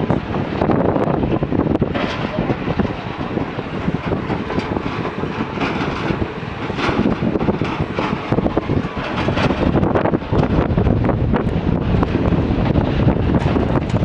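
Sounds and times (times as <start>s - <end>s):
diesel engine rumbling under load: 0.0s - 14.0s.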